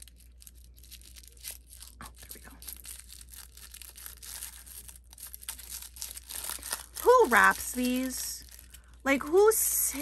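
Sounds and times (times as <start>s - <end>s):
tissue paper crinkling and tearing: 0.0s - 10.0s.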